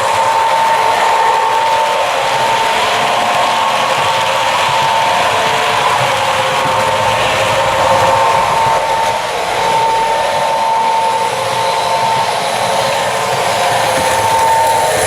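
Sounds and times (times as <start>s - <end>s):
model locomotive electric whine: 0.0s - 15.0s
wheels rolling on track: 0.0s - 15.0s.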